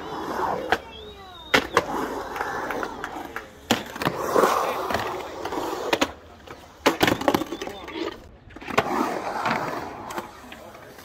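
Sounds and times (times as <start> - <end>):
skateboard wheels rolling on concrete: 0.0 - 11.0
skateboard clacking on concrete: 1.5 - 11.0.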